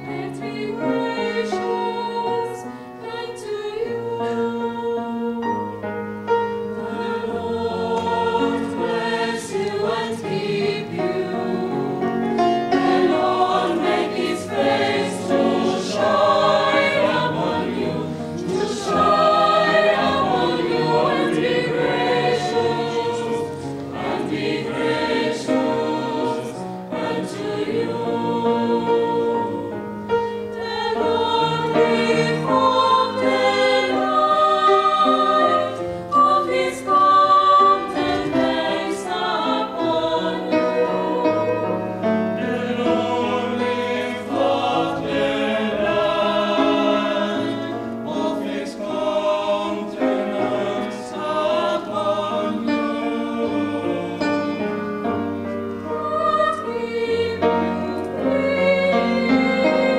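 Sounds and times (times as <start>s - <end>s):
mixed choir singing: 0.0s - 59.9s
piano accompaniment: 0.0s - 59.9s.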